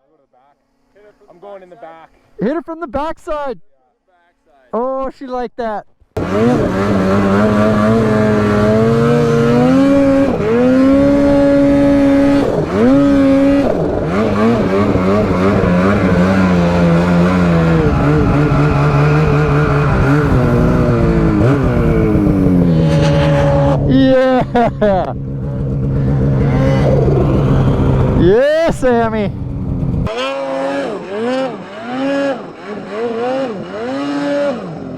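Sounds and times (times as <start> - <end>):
snowmobile engine revving: 0.0 - 2.8, 6.2 - 34.9.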